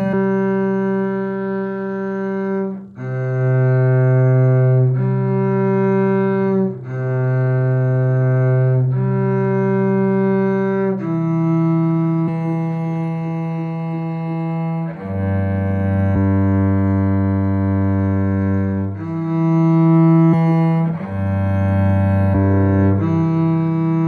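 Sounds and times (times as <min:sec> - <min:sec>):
cello long bowed notes: 0:00.0 - 0:24.0.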